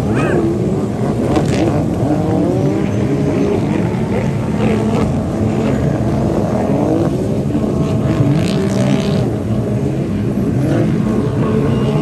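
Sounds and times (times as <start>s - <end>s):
jet ski engines revving: 0.0s - 12.0s.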